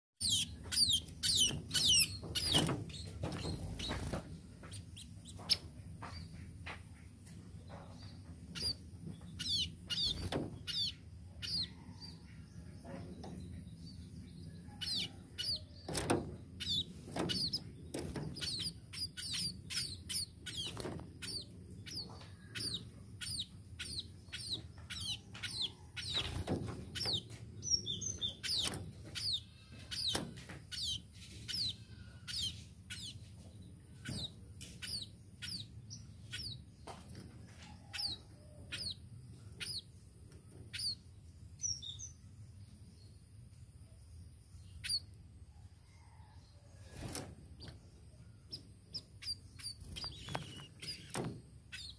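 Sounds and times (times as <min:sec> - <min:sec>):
bird chirping: 0:00.2 - 0:51.9.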